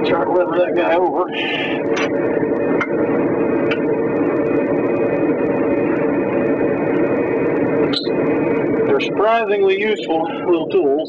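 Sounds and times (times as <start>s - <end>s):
steady mechanical whir: 0.0s - 11.0s.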